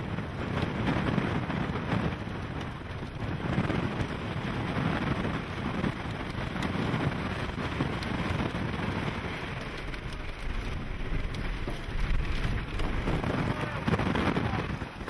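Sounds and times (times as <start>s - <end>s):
rain lashing a car: 0.0s - 15.0s
wind gusts through window: 0.0s - 15.0s.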